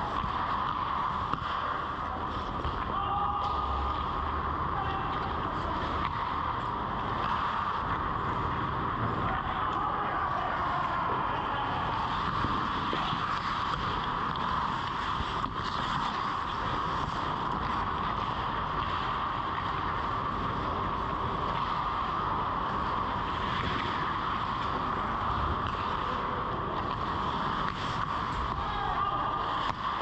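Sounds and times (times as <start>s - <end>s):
ice rink rushing noise: 0.0s - 30.0s.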